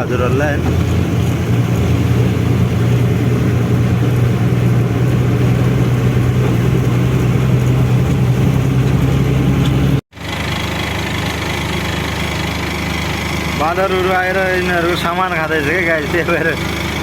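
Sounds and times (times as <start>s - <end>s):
diesel truck engine running: 0.0s - 17.0s
road noise: 0.0s - 17.0s.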